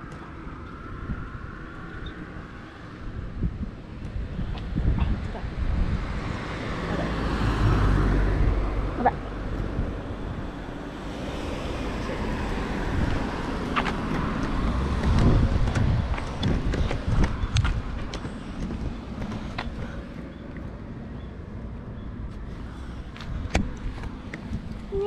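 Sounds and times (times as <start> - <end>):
cars driving past: 0.0 - 25.0.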